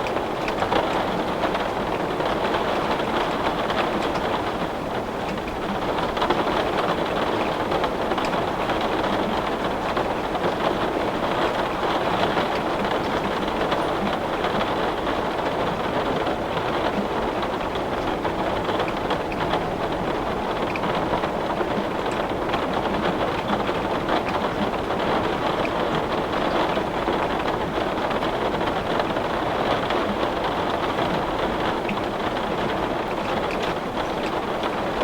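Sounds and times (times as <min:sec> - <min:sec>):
heavy rain on window glass: 0:00.0 - 0:35.0.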